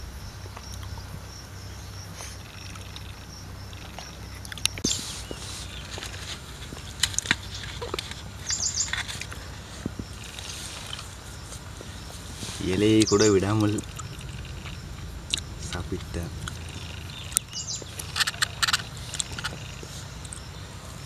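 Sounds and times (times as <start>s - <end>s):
low steady rumble: 0.0s - 21.0s
small bird chirping: 0.1s - 21.0s.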